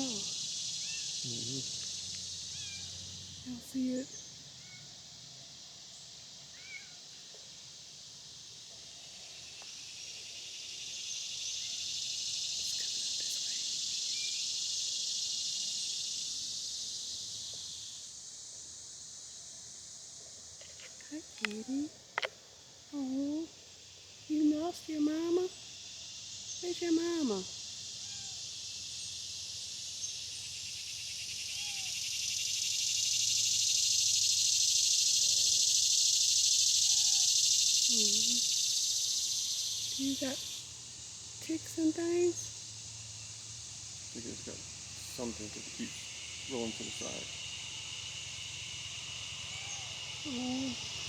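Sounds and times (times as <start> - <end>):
cicadas buzzing: 0.0 - 51.0.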